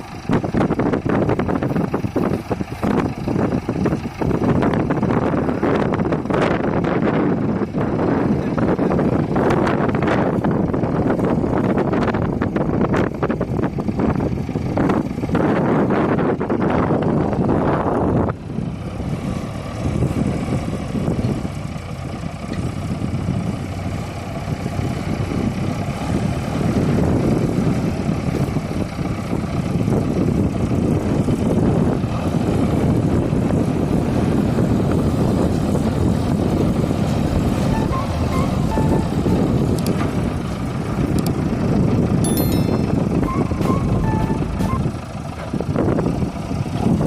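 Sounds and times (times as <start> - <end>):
heavy diesel engines straining: 0.0 - 47.0.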